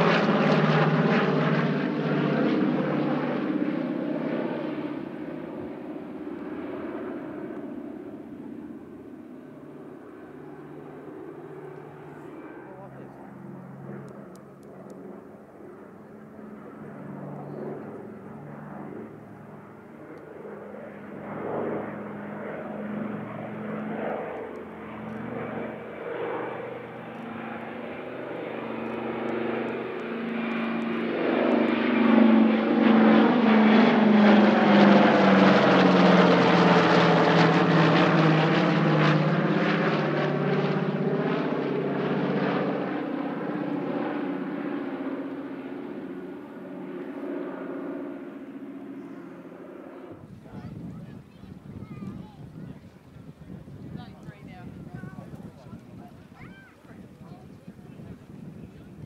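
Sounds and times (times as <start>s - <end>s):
propeller aircraft flying overhead: 0.0s - 59.0s.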